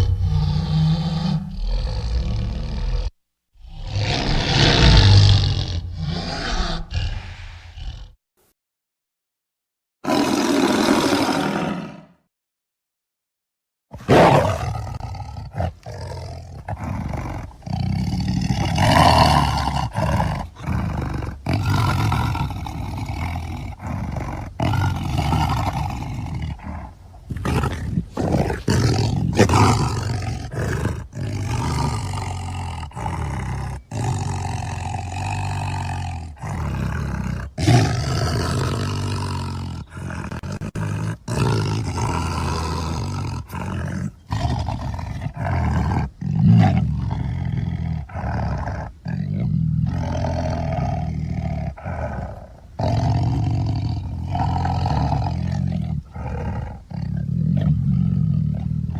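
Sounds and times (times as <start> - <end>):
tiger roaring and growling: 0.0 - 8.2, 10.0 - 12.2, 13.9 - 58.9.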